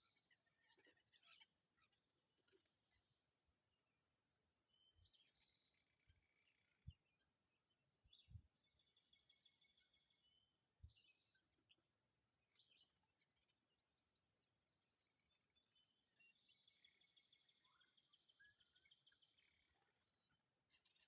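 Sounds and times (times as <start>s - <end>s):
wild birds chirping: 0.0s - 21.0s.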